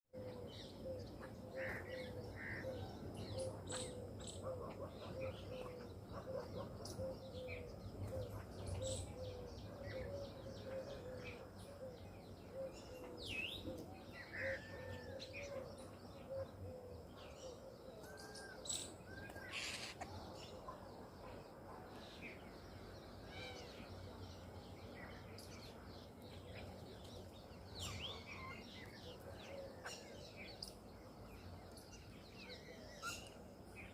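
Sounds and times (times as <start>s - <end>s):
birds calling and chirping: 0.2s - 33.9s
low background noise: 0.2s - 33.9s.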